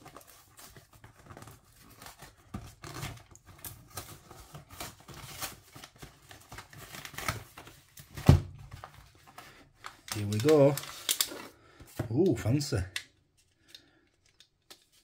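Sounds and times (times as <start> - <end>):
wrapper rustling: 0.0 - 12.7.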